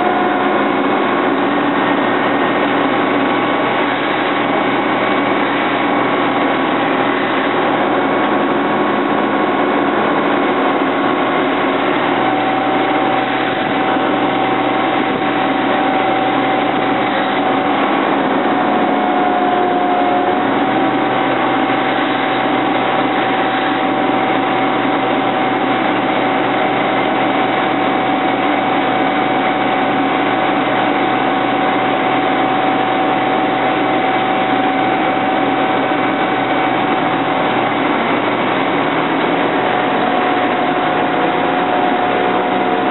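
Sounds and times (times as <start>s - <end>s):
steady whine: 0.0s - 42.9s
truck engine running: 0.0s - 42.9s.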